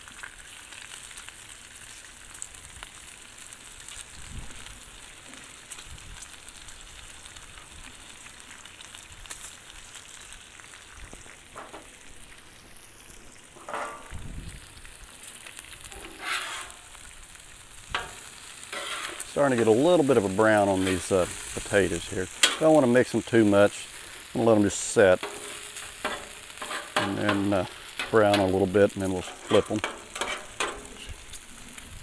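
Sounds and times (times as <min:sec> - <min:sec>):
food sizzling on a griddle: 0:00.0 - 0:32.0
spatula working food on griddle: 0:05.1 - 0:32.0.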